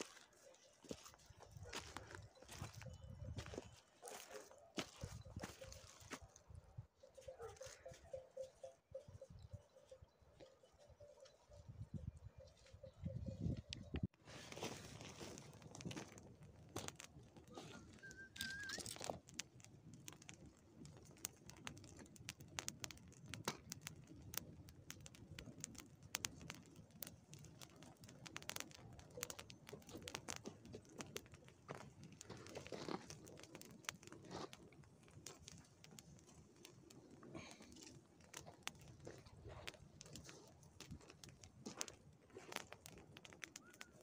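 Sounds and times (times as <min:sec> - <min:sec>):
dry twigs rustling: 0:00.0 - 0:09.0, 0:12.4 - 0:44.0
fire crackling and popping: 0:00.0 - 0:09.5, 0:12.5 - 0:44.0.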